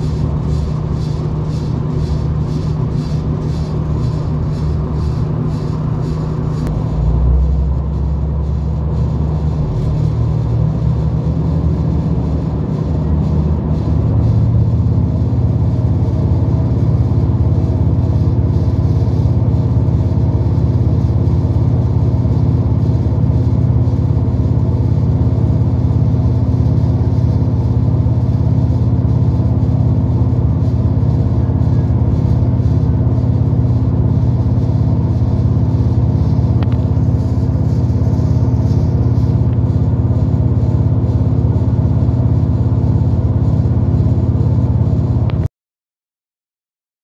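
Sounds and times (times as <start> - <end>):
train diesel engine droning: 0.0 - 45.5.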